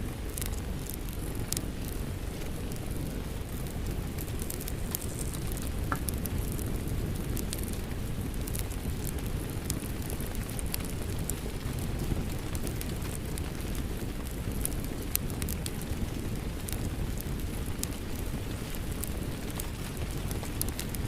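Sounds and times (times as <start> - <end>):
fireplace crackling: 0.0 - 21.0
rain: 0.0 - 21.0.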